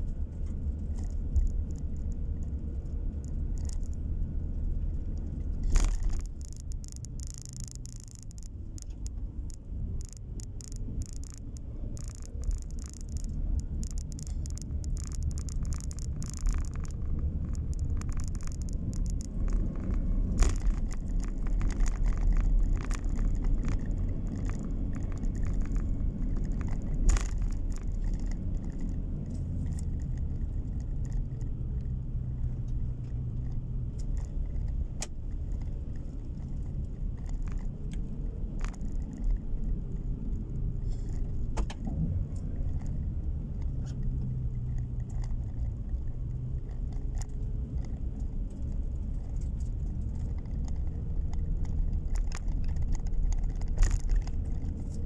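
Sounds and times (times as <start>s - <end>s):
engine and tyre rumble: 0.0s - 55.0s
low engine hum: 0.0s - 55.0s
small clicks and rattles: 0.0s - 55.0s.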